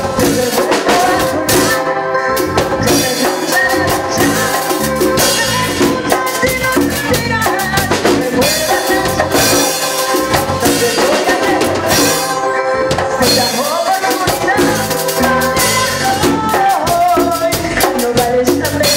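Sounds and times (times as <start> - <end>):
band music with drum kit: 0.0 - 18.9
bass line: 0.0 - 18.9.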